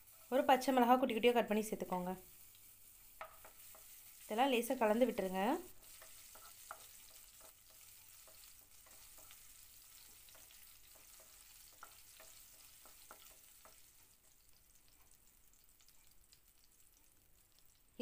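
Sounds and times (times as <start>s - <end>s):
crackles of spatula stirring: 0.0s - 18.0s
faint sizzle of frying in oil: 0.0s - 18.0s.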